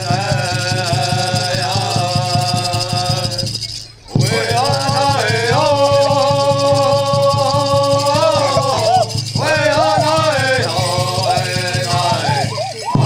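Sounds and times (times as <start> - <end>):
men's chorus singing: 0.0 - 3.6, 4.2 - 13.0
hand drum beat: 0.0 - 13.0
shaken rattles: 0.0 - 13.0.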